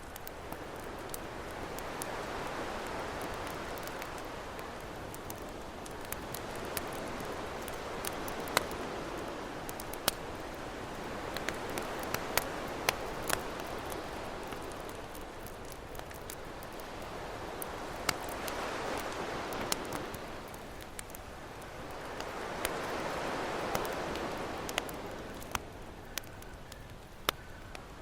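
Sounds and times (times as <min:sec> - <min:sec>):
campfire crackling and popping: 0:00.0 - 0:28.0
ocean waves: 0:00.6 - 0:25.9.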